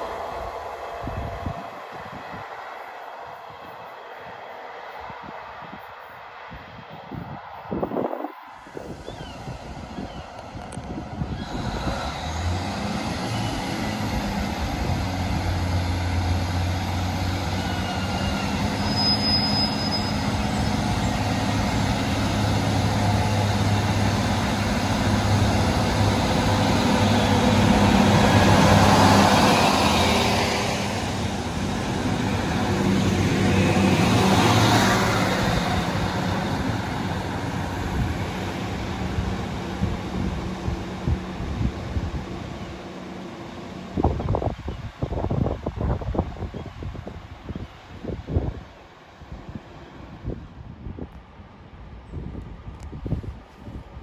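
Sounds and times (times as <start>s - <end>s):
train rushing past: 0.0s - 51.5s
train engine hum: 0.0s - 54.0s.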